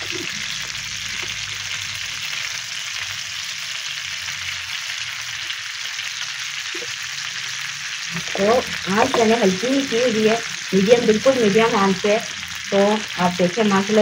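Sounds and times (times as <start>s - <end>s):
burger patties sizzling in oil: 0.0s - 14.0s.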